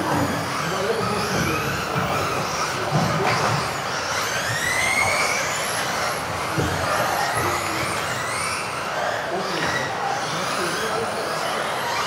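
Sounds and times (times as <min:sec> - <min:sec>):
rc car motors whining: 0:00.0 - 0:12.0.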